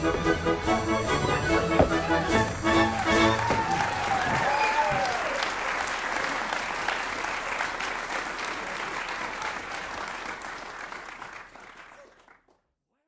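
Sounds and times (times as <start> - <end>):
audience applauding: 2.0 - 12.6.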